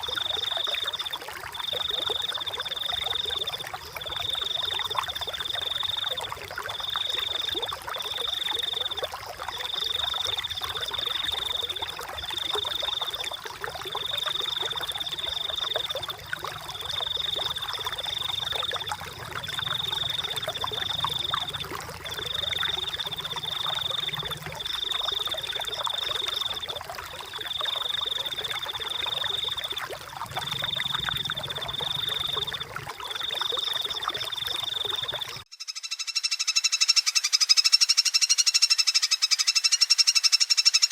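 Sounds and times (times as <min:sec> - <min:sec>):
flowing water rushing: 0:00.0 - 0:35.4.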